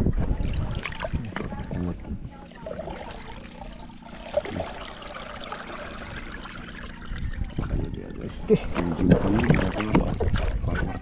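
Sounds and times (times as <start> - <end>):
water pouring and trickling: 0.0 - 10.6
faint steady hum: 0.1 - 10.0.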